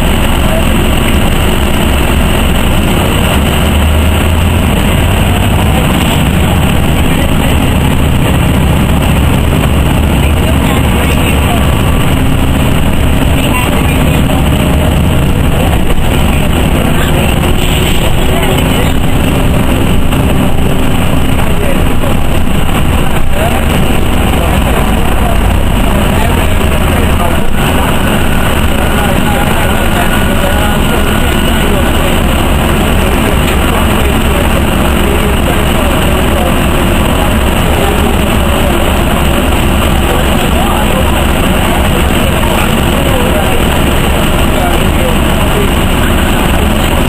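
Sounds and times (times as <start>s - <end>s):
bus engine rumble: 0.0s - 47.0s
road noise: 0.0s - 47.0s.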